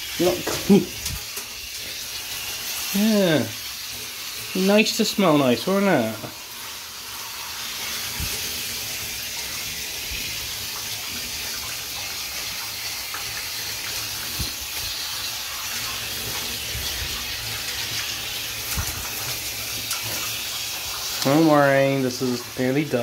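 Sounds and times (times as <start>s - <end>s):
shower spraying water: 0.0s - 23.0s.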